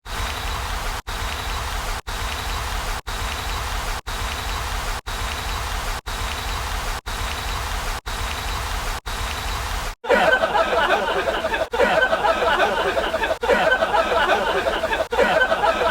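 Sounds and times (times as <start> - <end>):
crackling hiss: 0.0 - 15.1.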